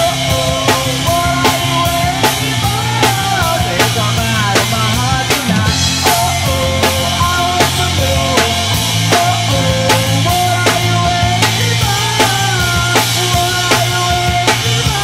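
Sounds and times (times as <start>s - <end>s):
bass guitar: 0.0s - 15.0s
bending electric guitar melody: 0.0s - 15.0s
drum kit fast beat: 0.0s - 15.0s.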